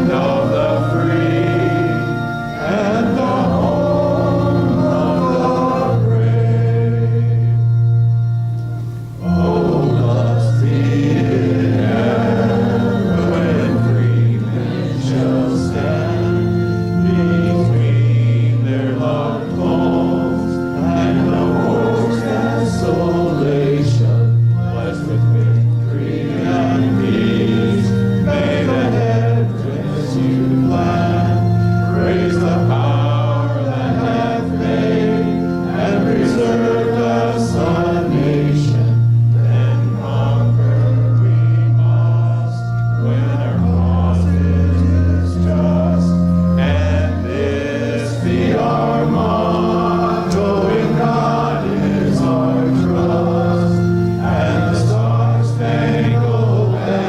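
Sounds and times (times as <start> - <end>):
congregation singing a hymn: 0.0 - 57.0
sustained low chord accompaniment: 0.0 - 57.0.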